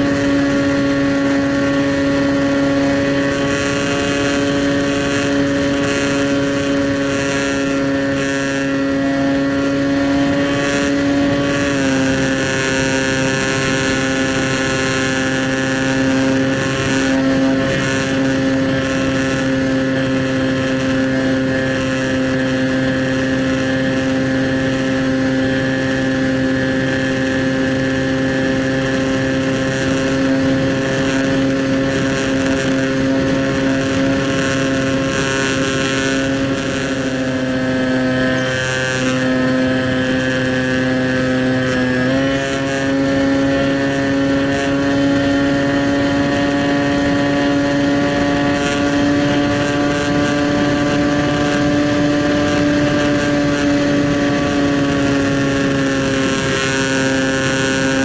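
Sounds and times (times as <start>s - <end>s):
model airplane propeller drone: 0.0s - 58.0s.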